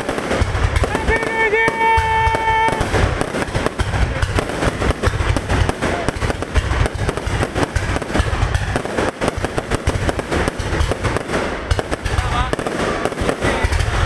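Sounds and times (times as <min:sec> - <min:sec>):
deep firework booms: 0:00.0 - 0:14.0
fireworks bangs and crackles: 0:00.0 - 0:14.0.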